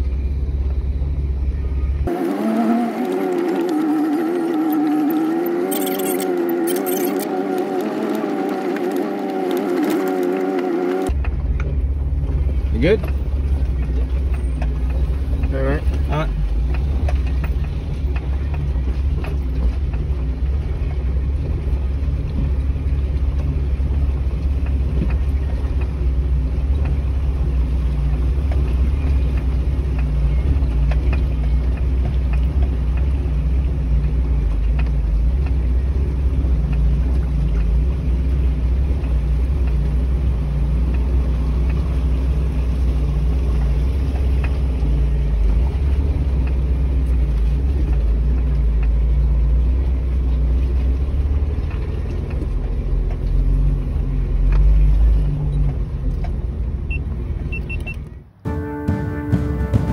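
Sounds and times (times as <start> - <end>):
vehicle engine rumbling at low revs: 0.0 - 59.9.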